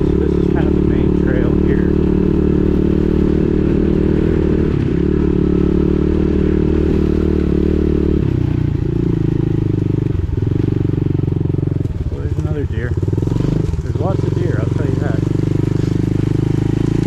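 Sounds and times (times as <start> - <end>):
pit bike engine running: 0.0 - 17.0.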